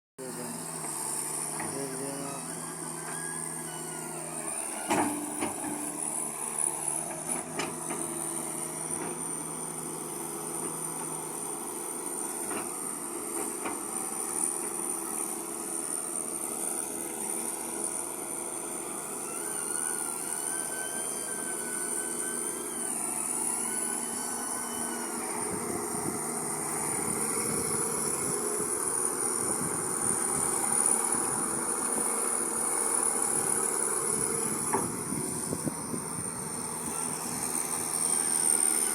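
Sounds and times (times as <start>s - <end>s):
excavator engine running: 0.2s - 38.9s.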